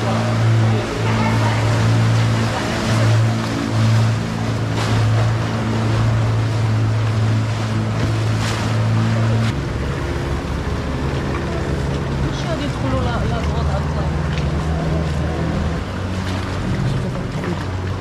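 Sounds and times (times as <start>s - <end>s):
boat engine humming: 0.0s - 18.0s
water rushing around hull: 0.0s - 18.0s.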